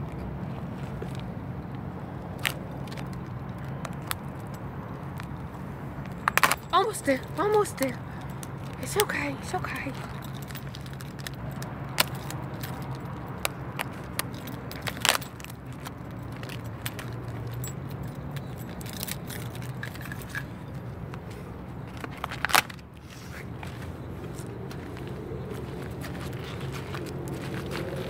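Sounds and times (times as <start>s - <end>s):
steady low rumble: 0.0s - 28.0s
keys jangling: 2.8s - 22.9s, 24.6s - 28.0s.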